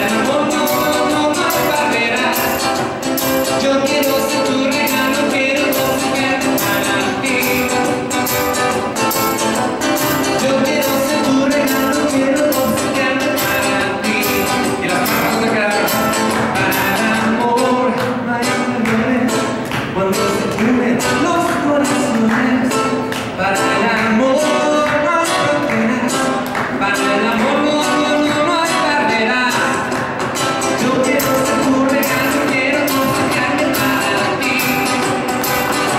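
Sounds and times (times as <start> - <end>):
acoustic guitar strumming: 0.0 - 35.9
man singing: 0.0 - 35.9.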